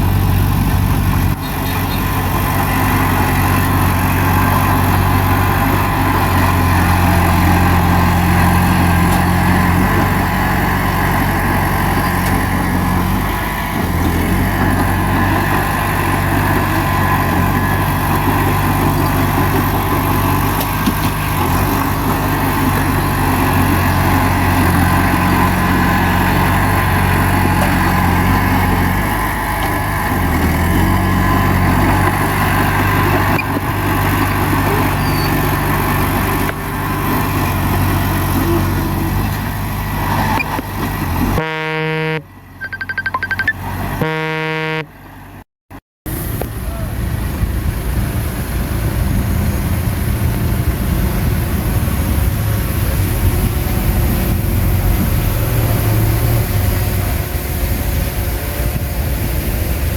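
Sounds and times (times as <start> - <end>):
bulldozer diesel engine running: 0.0 - 45.4, 46.1 - 59.9.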